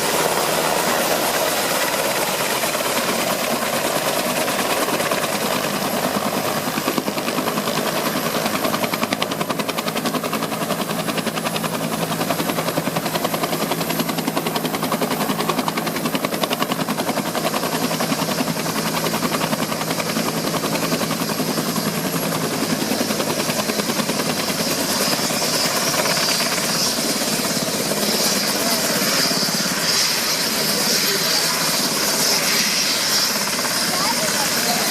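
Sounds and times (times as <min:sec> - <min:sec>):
helicopter rotor blades beating: 0:00.0 - 0:34.9.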